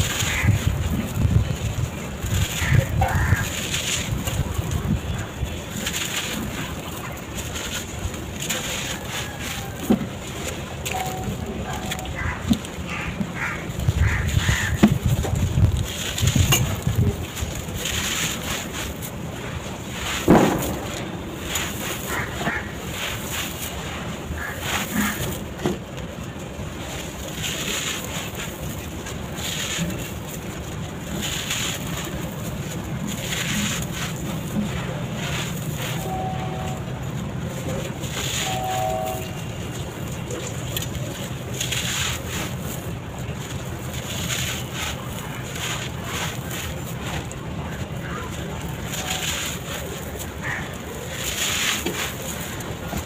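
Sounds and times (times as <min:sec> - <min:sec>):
steady rushing background: 0:00.0 - 0:53.0.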